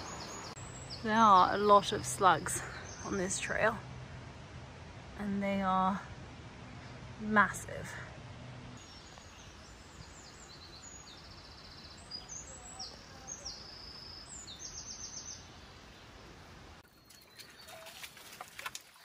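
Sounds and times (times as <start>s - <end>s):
outdoor background rush: 0.0s - 19.0s.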